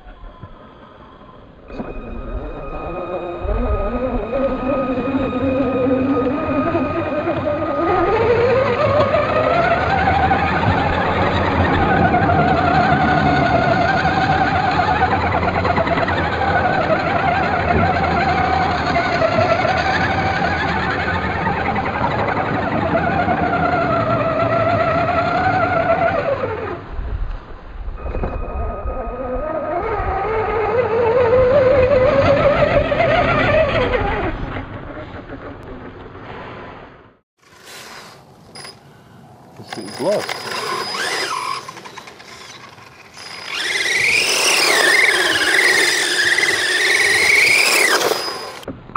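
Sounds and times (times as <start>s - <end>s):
electric motor whining: 0.0s - 26.8s, 28.0s - 35.0s, 39.6s - 48.7s.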